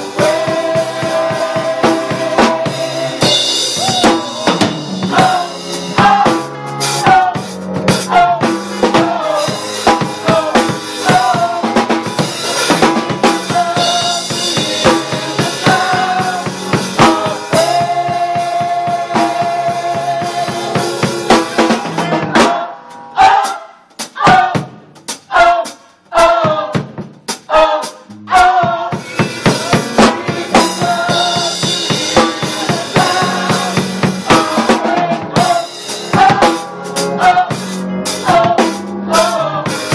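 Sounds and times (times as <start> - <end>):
gospel choir singing: 0.0 - 39.9
live band with drum kit: 0.0 - 39.9.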